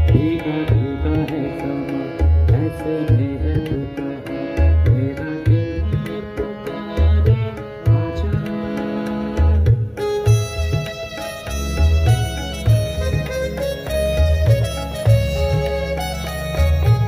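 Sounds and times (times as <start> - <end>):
keyboard melody: 0.0 - 17.0
tabla-style drum beat: 0.0 - 17.0.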